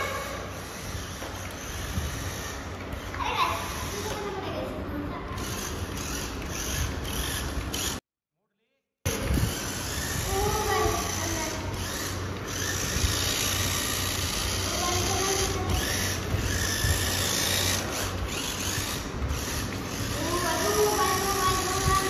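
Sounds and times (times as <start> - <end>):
toy car motor whirring: 0.0 - 8.0, 9.1 - 22.0.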